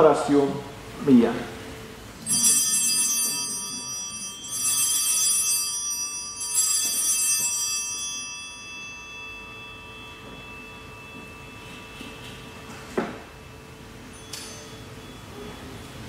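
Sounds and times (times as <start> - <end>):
altar bells ringing: 2.2 - 15.9.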